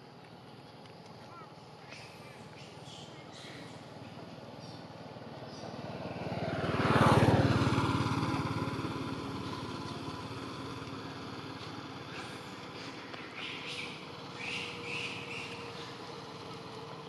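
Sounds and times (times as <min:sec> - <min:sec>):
vehicle engine driving past: 0:01.6 - 0:17.0.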